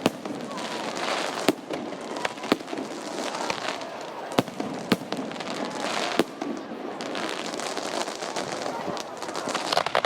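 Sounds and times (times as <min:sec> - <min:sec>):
continuous background noise: 0:00.0 - 0:10.0.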